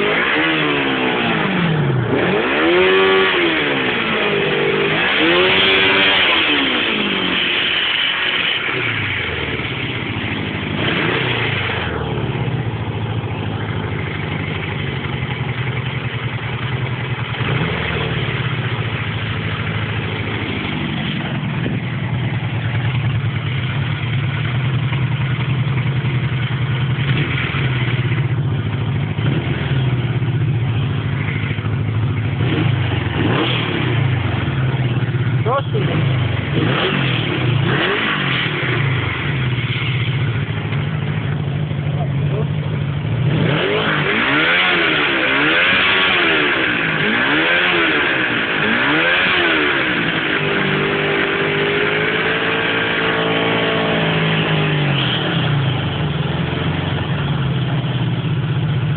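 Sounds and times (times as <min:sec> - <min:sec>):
motorcycle engine idling and revving: 0:00.0 - 0:58.9.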